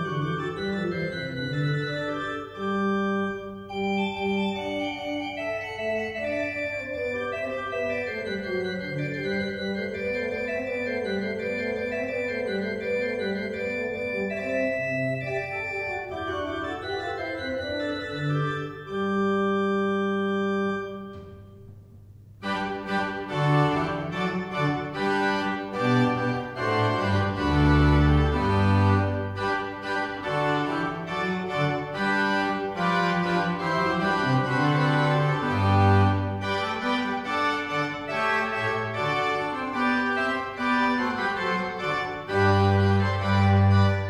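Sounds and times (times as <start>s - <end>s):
pipe organ playing: 0.0s - 21.7s, 22.4s - 44.0s.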